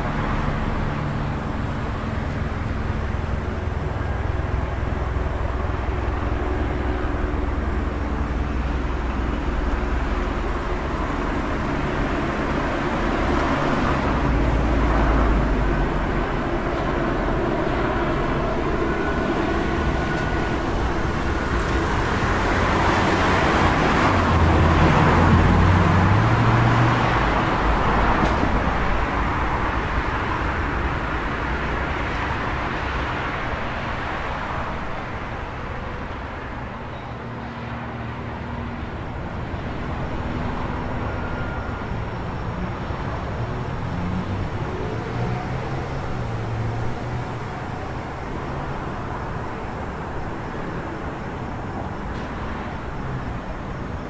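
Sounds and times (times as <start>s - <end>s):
distant traffic hum: 0.0s - 54.0s.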